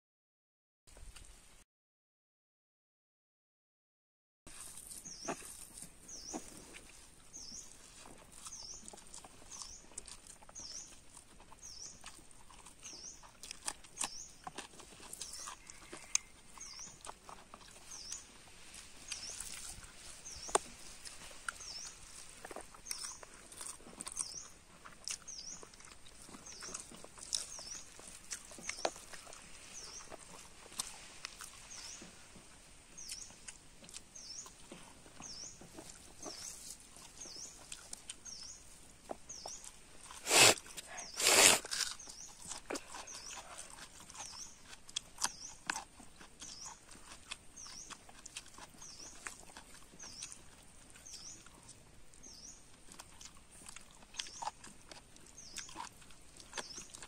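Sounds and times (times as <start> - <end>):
chewing: 4.5 - 57.0
fingers mixing food on leaf: 4.5 - 57.0.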